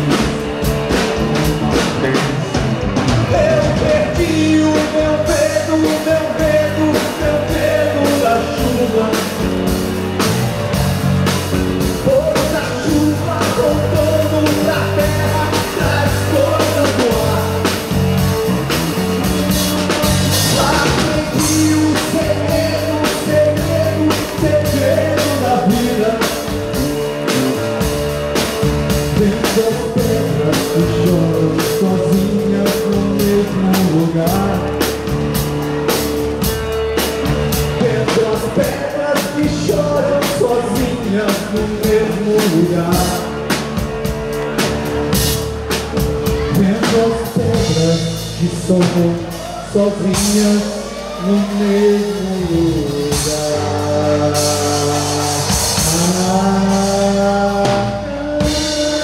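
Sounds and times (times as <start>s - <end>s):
drum kit beat: 0.0s - 59.0s
electric guitars: 0.0s - 59.0s.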